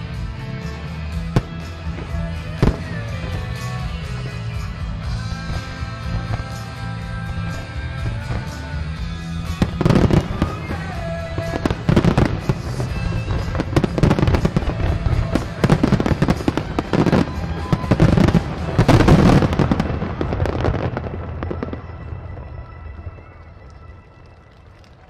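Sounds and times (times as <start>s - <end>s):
firework bangs and bursts: 1.1s - 22.6s.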